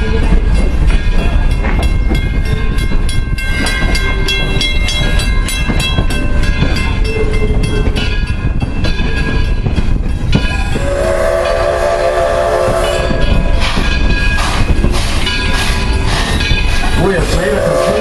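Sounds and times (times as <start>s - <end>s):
wheels clicking and clanking: 0.0s - 10.9s, 12.9s - 18.0s
train cars rolling on rails: 0.0s - 18.0s.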